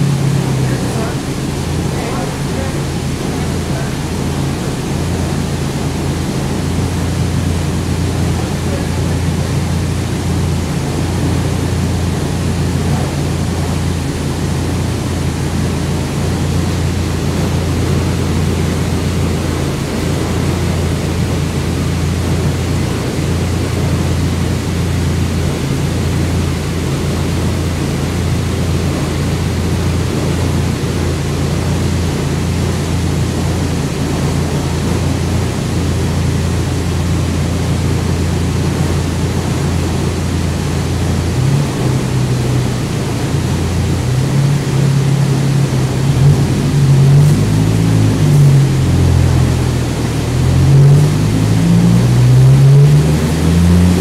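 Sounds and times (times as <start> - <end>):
car engine droning on dynamometer: 0.0 - 54.0.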